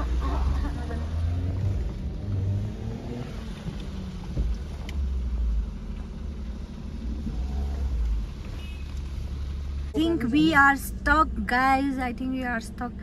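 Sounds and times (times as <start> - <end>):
car engine labouring uphill: 0.0 - 13.0.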